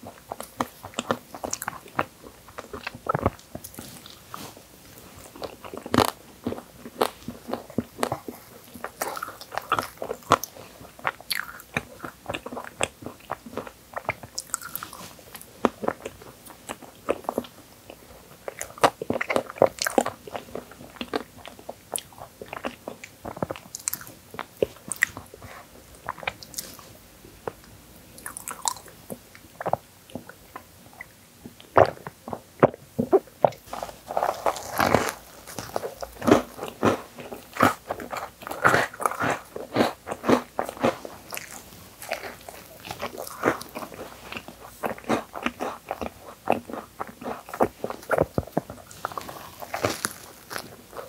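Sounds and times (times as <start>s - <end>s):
chewing crunchy cookie pieces: 0.0s - 51.0s.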